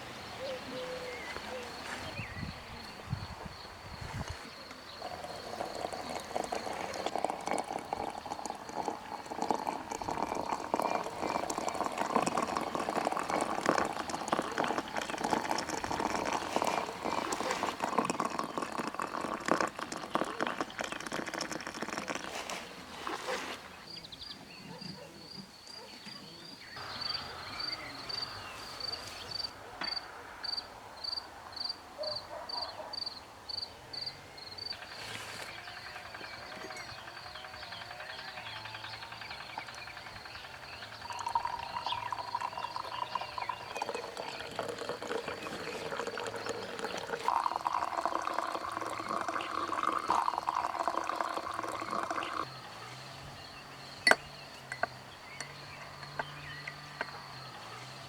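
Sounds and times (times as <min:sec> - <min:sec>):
insect chirping: 0:00.2 - 0:22.2, 0:26.6 - 0:58.0.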